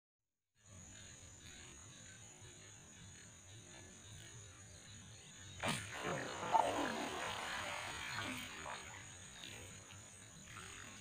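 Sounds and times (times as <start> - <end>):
high-pitched insect drone: 0.6 - 11.0.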